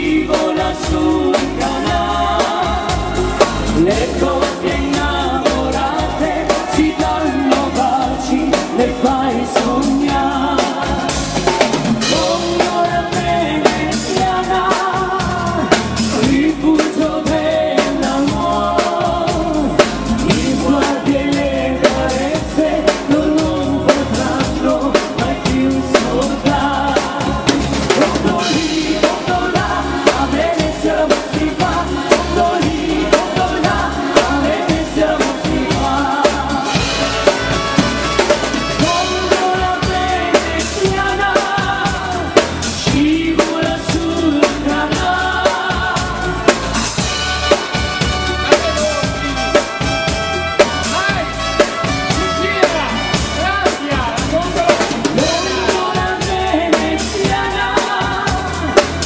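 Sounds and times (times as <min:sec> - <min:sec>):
drum kit beat: 0:00.0 - 0:59.0
person singing: 0:00.0 - 0:59.0.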